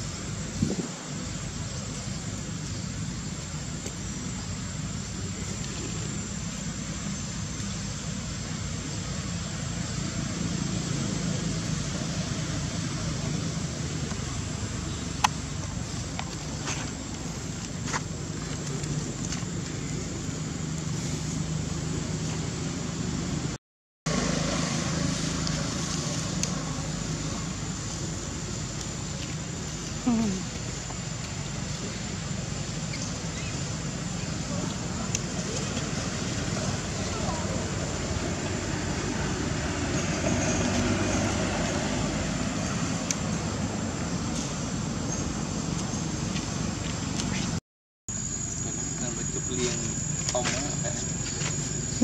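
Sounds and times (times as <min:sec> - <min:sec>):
traffic hum: 0:00.0 - 0:52.0.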